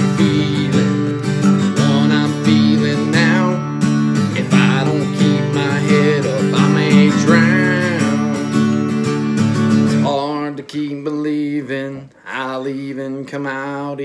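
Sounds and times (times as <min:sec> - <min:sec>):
man singing a ballad: 0:00.0 - 0:09.0, 0:09.9 - 0:14.0
acoustic guitar strumming: 0:00.0 - 0:14.0.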